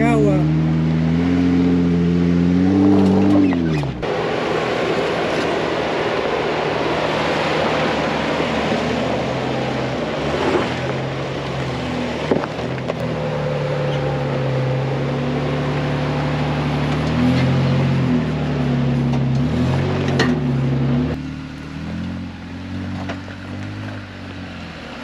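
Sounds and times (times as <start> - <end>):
car engine running low: 0.0 - 25.0.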